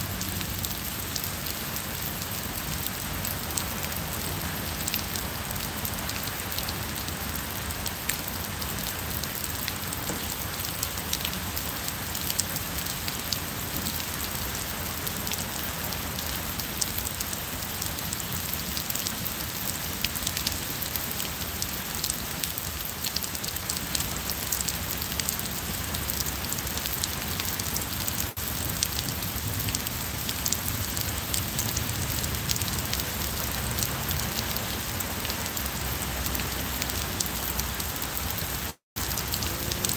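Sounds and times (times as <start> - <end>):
steady rain hiss: 0.0 - 39.9
raindrop ticks: 0.1 - 39.9.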